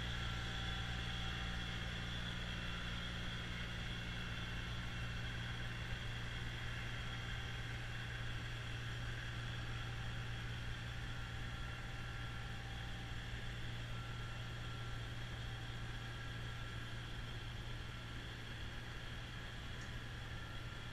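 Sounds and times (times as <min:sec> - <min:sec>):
distant tractor with snowblower: 0:00.0 - 0:20.9.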